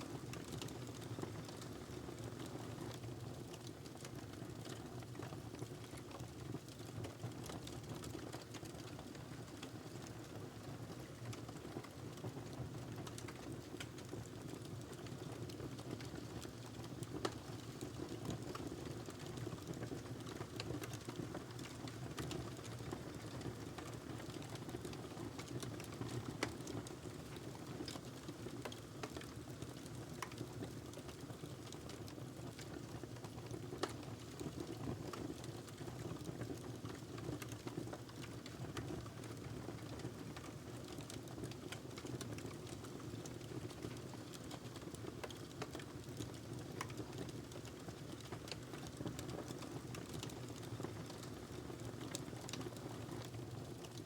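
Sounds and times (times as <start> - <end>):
wood fire crackling and popping: 0.1 - 10.3, 11.0 - 54.0.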